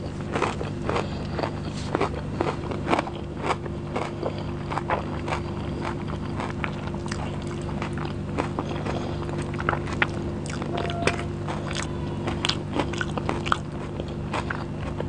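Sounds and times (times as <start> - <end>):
chewing and wet mouth smacks: 0.0 - 15.0
steady low hum: 0.0 - 15.0.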